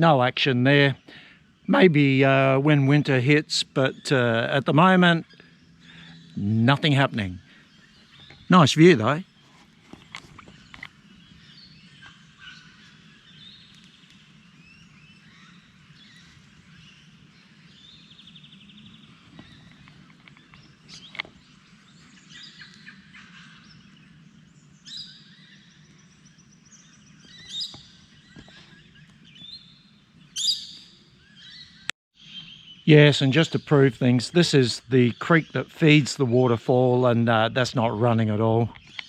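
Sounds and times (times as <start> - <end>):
birds calling and trilling: 0.0 - 39.0.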